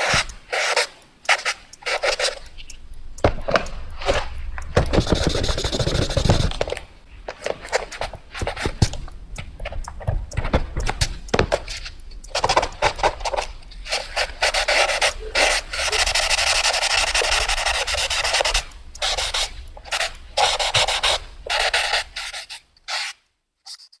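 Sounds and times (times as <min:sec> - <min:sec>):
pencil strokes on paper: 0:00.0 - 0:09.0, 0:10.3 - 0:24.0.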